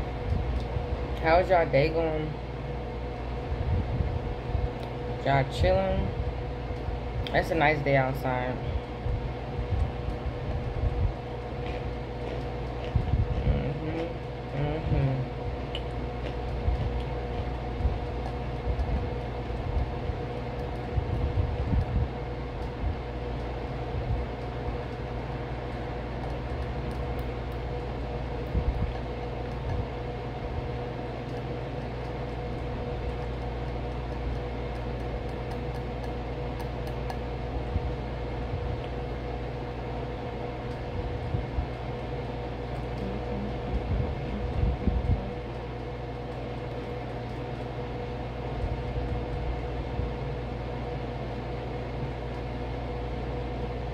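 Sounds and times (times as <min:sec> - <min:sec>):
steady mechanical hum: 0:00.0 - 0:53.9.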